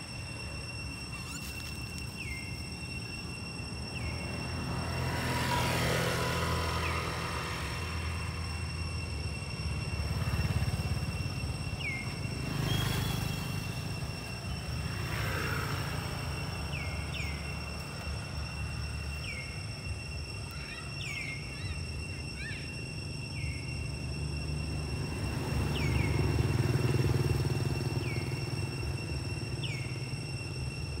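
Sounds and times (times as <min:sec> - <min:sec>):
high-pitched whine: 0:00.0 - 0:31.0.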